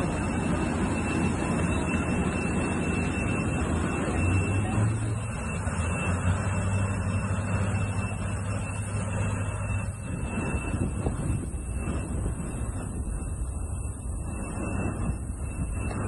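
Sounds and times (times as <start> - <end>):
engine running steadily: 0.0 - 16.0
faint thin whine: 0.0 - 16.0.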